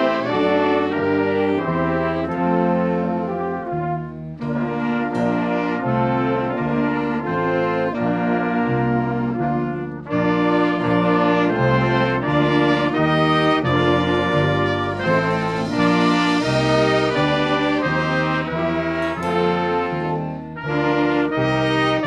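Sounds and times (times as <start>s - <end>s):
brass ensemble playing chords: 0.0s - 22.0s.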